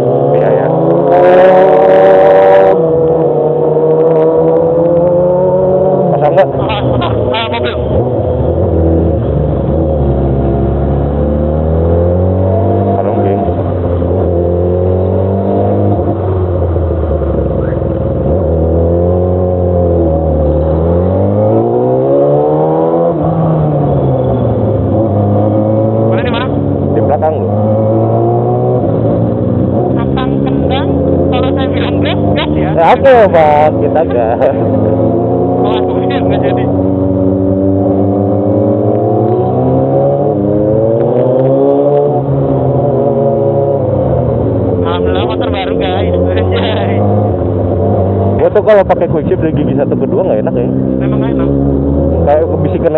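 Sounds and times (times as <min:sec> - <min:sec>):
motorcycle engine and exhaust: 0:00.0 - 0:52.9.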